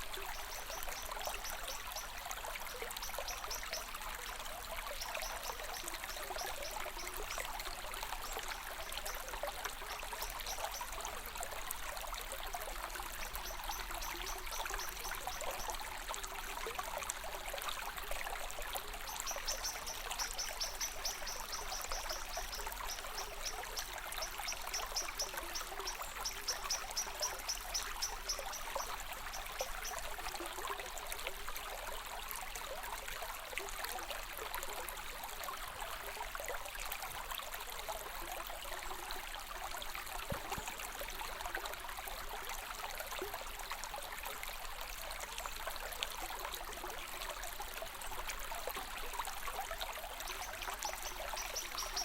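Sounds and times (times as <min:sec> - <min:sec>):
water trickling and babbling: 0:00.0 - 0:52.0.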